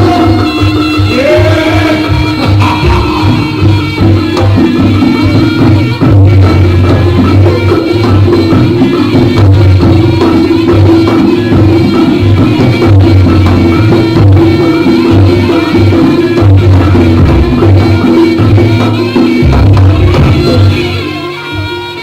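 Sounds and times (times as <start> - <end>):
drums beating driving rhythm: 0.0 - 22.0.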